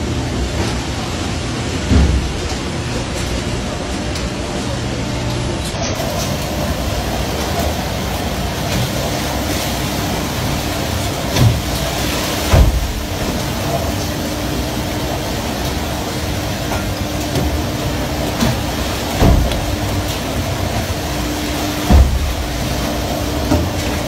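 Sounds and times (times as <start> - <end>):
boat engine drone: 0.0 - 24.0
steady low hum: 0.0 - 24.0
water rushing along hull: 0.0 - 24.0.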